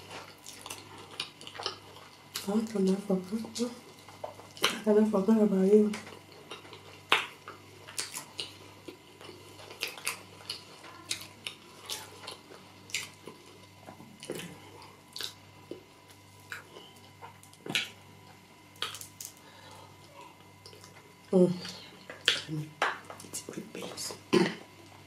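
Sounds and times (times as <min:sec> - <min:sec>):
chewing and lip smacks: 0:00.1 - 0:02.5, 0:03.8 - 0:04.8, 0:05.9 - 0:19.4, 0:20.1 - 0:23.4.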